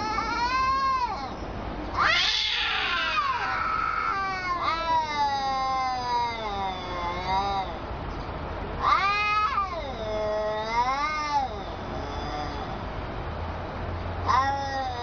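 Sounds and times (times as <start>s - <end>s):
cat yowling: 0.0s - 7.8s, 8.8s - 12.8s, 14.2s - 15.0s.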